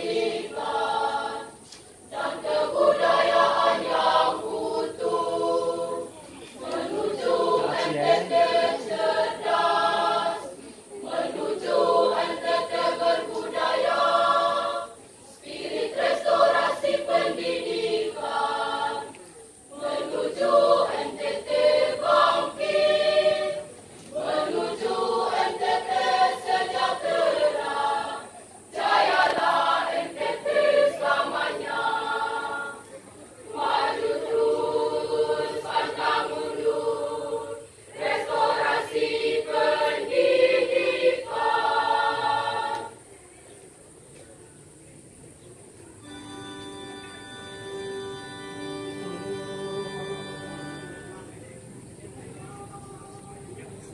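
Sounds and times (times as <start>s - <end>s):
choir singing: 0.0s - 43.0s, 47.6s - 51.4s.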